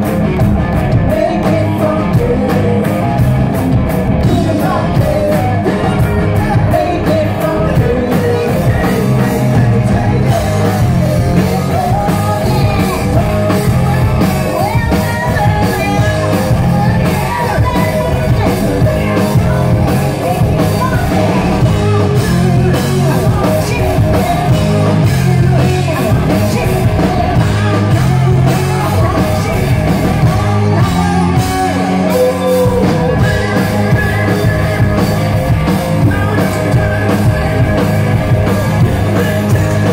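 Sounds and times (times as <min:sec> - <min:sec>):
lead vocals: 0:00.0 - 0:39.9
live rock band playing: 0:00.0 - 0:39.9.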